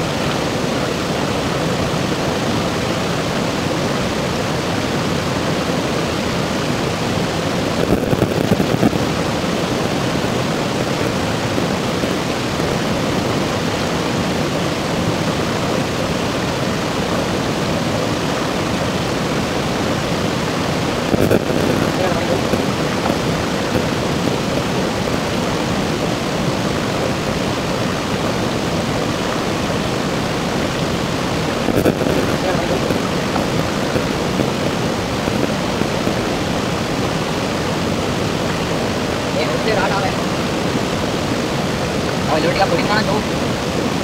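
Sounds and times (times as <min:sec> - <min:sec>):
stream rushing over boulders: 0:00.0 - 0:44.0.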